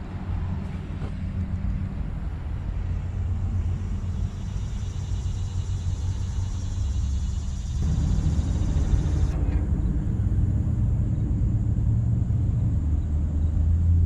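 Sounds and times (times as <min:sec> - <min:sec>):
tractor engine idling: 0:00.0 - 0:12.5.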